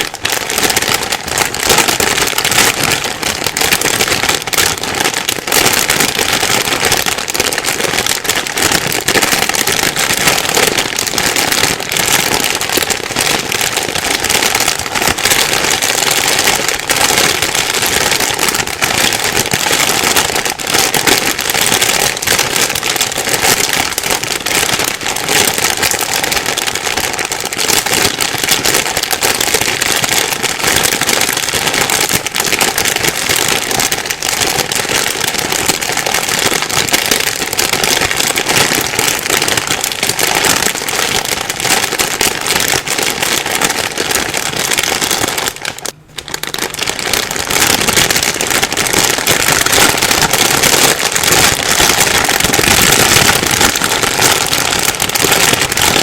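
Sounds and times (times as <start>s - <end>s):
plastic bag crinkling: 0.0s - 56.0s.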